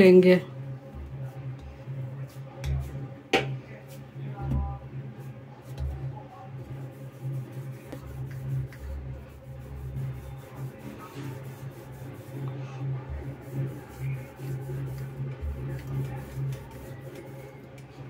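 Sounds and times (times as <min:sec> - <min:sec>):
rolling pin rubbing over dough: 0:00.0 - 0:18.0.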